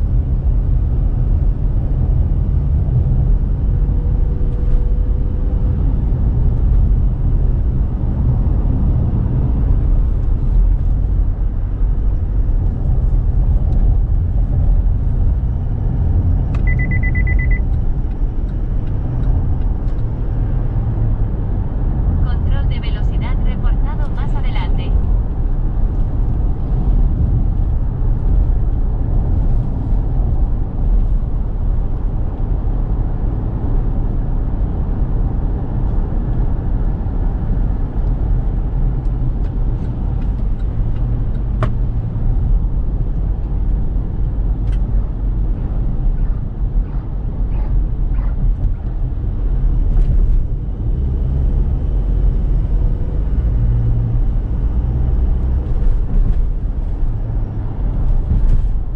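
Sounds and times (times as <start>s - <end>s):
diesel engine rumble: 0.0s - 58.9s
road noise: 0.0s - 58.9s.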